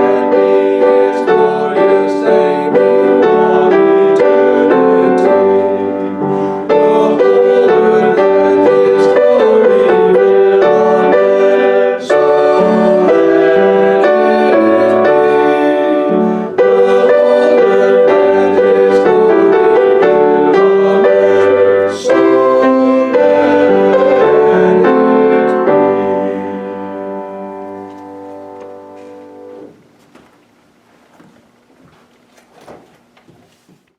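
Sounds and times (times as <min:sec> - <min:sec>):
keyboard instrument chords: 0:00.0 - 0:29.8.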